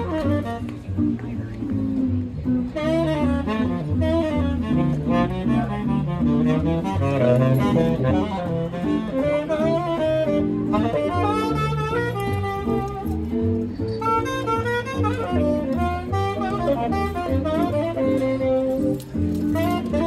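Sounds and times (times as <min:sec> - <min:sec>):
tenor saxophone melody: 0:00.0 - 0:01.2, 0:02.6 - 0:20.0
walking bass line: 0:00.0 - 0:20.0
electric guitar chords: 0:01.7 - 0:20.0.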